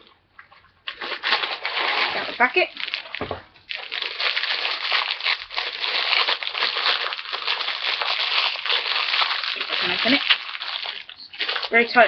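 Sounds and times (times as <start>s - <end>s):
plastic wrapper crinkling: 0.8s - 12.0s.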